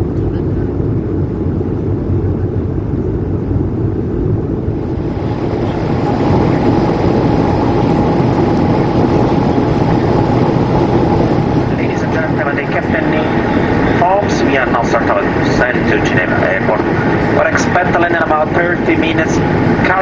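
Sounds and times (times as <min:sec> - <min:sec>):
airplane cabin airflow rush: 0:00.0 - 0:20.0
faint steady hum: 0:00.0 - 0:20.0
turbofan engines: 0:00.0 - 0:20.0.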